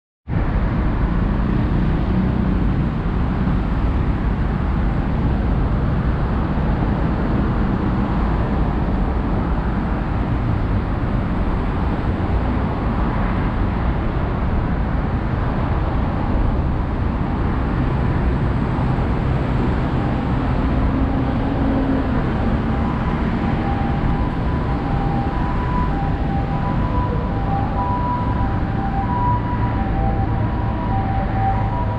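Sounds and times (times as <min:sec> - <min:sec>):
road traffic rumble: 0:00.3 - 0:31.9.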